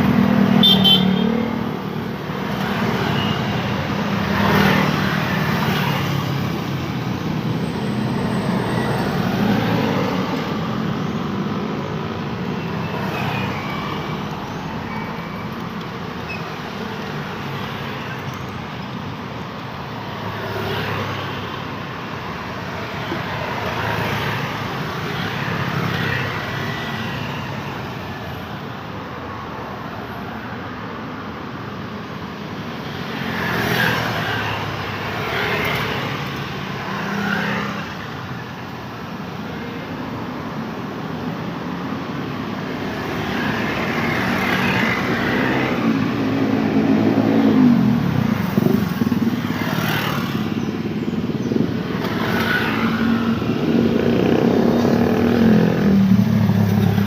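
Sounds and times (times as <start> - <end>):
motorcycles passing: 0.0 - 28.8, 32.4 - 57.0
cars passing: 0.0 - 57.0.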